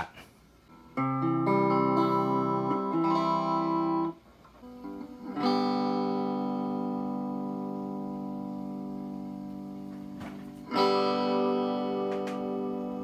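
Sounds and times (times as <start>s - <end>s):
electric guitar chords: 0.7s - 13.0s.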